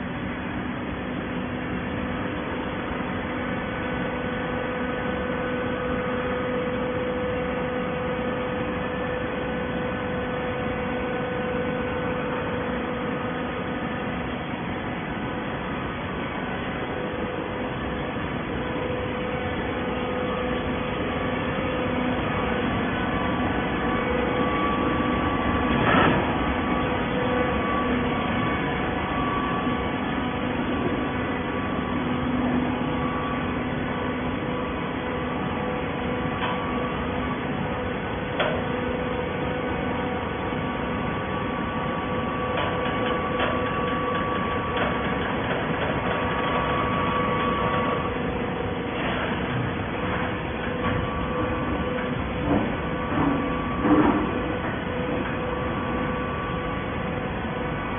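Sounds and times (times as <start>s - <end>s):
baling machine humming: 0.0s - 57.9s.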